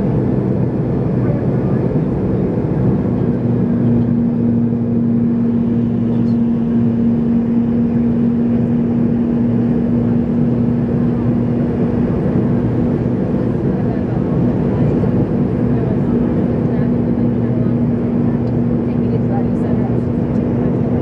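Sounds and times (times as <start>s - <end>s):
airliner cabin drone: 0.0s - 21.0s
constant hum tone: 0.0s - 21.0s.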